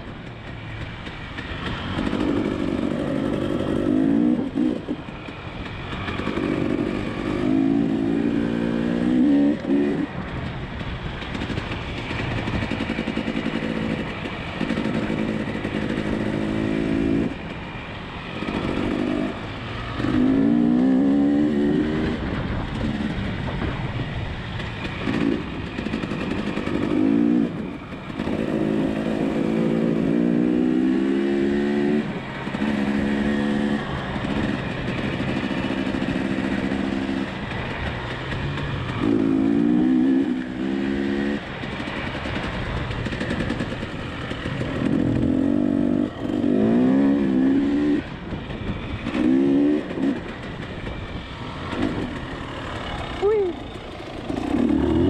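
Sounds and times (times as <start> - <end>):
dirt bike engine revving: 1.4 - 5.0, 5.7 - 10.2, 11.3 - 17.4, 18.3 - 23.8, 24.6 - 48.1, 48.7 - 55.0.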